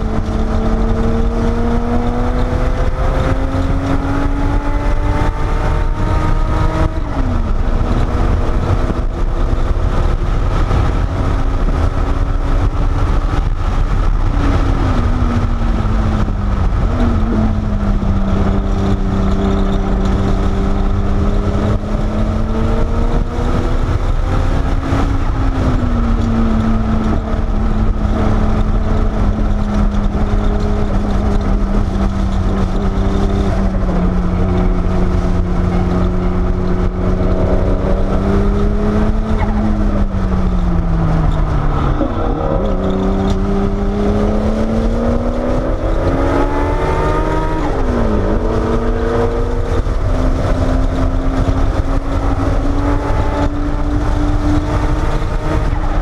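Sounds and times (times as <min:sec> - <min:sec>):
car engine under load: 0:00.0 - 0:56.0
road and wind rumble: 0:00.0 - 0:56.0.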